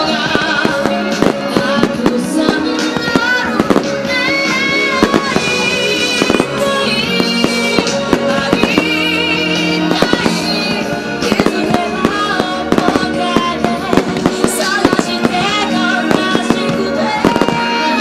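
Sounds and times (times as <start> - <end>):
firework bangs and crackles: 0.0 - 18.0
music: 0.0 - 18.0.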